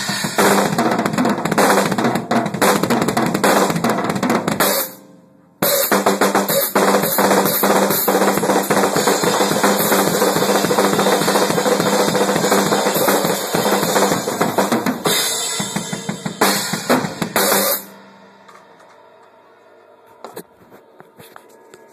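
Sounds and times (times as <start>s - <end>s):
drum kit solo: 0.0s - 19.2s.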